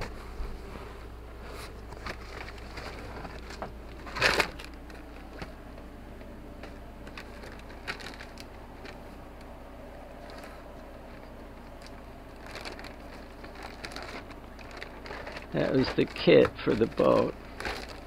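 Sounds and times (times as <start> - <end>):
faint low hum: 0.0 - 18.0
plastic bags rustling: 0.0 - 18.0.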